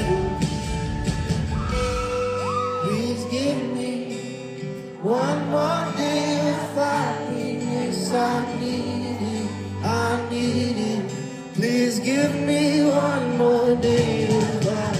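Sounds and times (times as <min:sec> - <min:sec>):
man singing: 0:00.0 - 0:00.7, 0:02.6 - 0:14.9
guitar accompaniment: 0:00.0 - 0:14.9.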